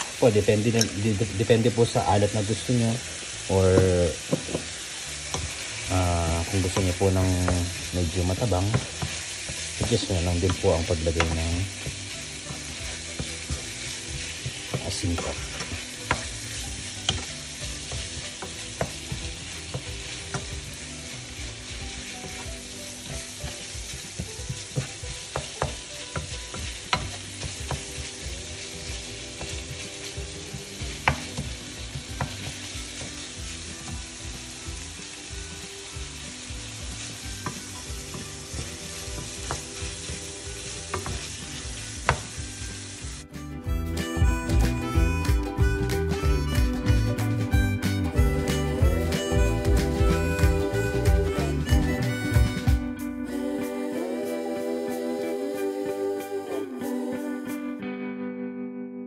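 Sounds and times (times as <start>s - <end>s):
meat sizzling in a frying pan: 0.0s - 52.9s.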